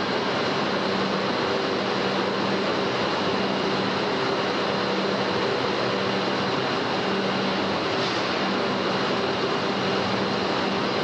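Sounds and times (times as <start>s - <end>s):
factory machinery rushing noise: 0.0s - 11.0s.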